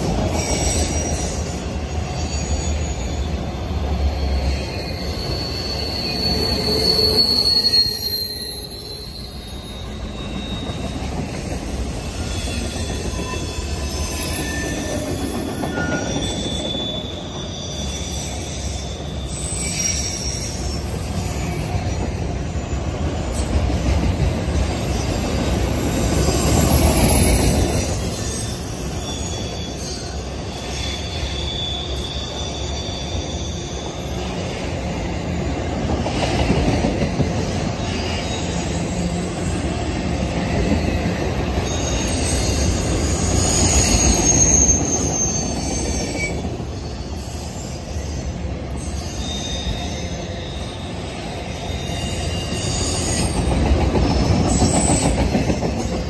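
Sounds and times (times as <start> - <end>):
steel wheels rumbling on rail: 0.0 - 56.0
high wheel squeals: 0.2 - 22.3, 24.8 - 36.1, 36.9 - 56.0.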